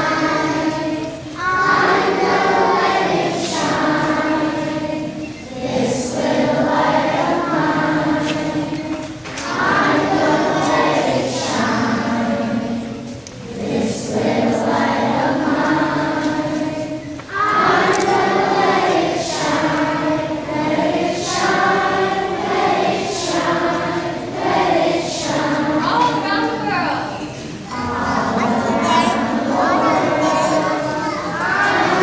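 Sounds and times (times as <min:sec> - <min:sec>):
group of voices singing: 0:00.0 - 0:32.0.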